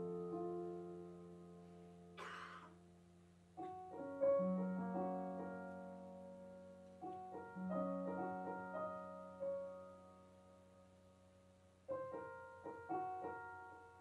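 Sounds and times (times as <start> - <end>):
solo piano chords and notes: 0.0 - 14.0.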